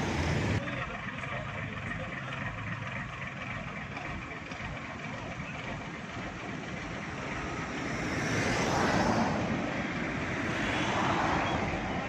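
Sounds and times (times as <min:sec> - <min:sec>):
road vehicle noise: 0:00.0 - 0:12.0.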